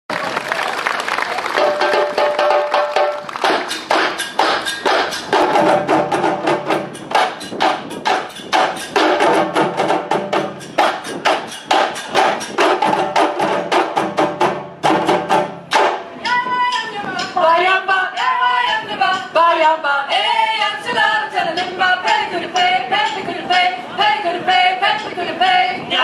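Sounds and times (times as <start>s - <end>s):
hand drums playing: 1.6s - 26.0s.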